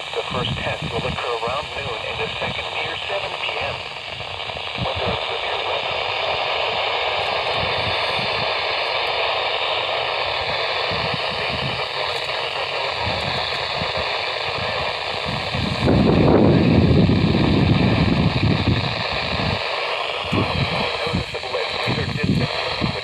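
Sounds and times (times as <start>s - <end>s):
faint broken announcer voice: 0.0s - 4.0s, 4.6s - 8.6s, 10.7s - 17.9s, 18.8s - 23.0s
radio static hiss: 0.0s - 23.0s
low rumble: 3.4s - 23.0s.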